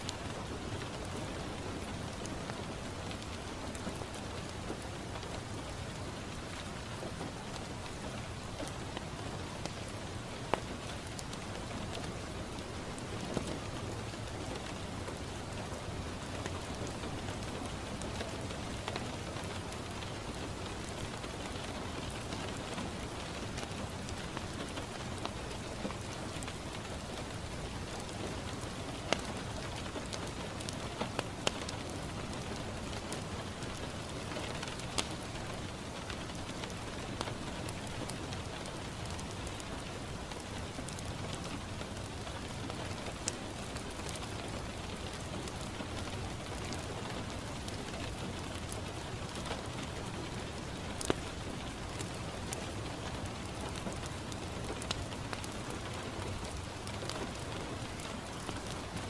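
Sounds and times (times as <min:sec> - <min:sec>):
rain pattering on window: 0:00.0 - 0:59.0
wood fire crackling: 0:00.0 - 0:59.0.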